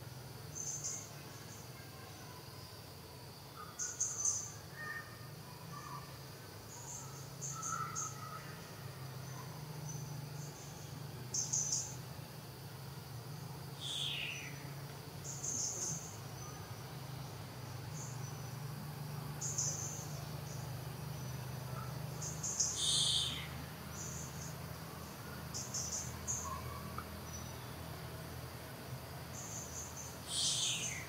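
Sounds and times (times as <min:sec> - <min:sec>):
insects chirping: 0:00.0 - 0:31.0
steady low hum: 0:00.0 - 0:31.0.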